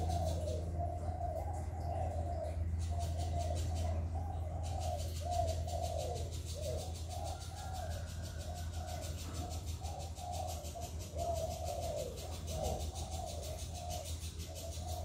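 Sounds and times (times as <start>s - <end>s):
dove cooing: 0.0s - 15.0s
steady low hum: 0.0s - 15.0s.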